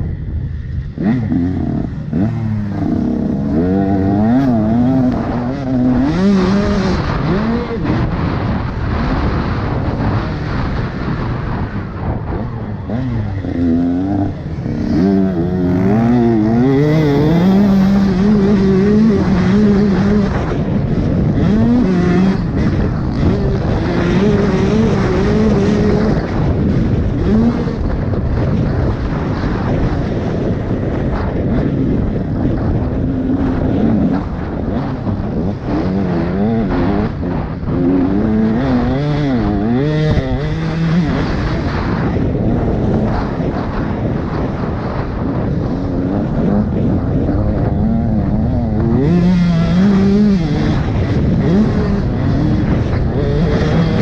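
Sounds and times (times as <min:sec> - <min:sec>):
wind and track noise: 0:00.0 - 0:54.0
motocross bike engine revving: 0:00.5 - 0:54.0.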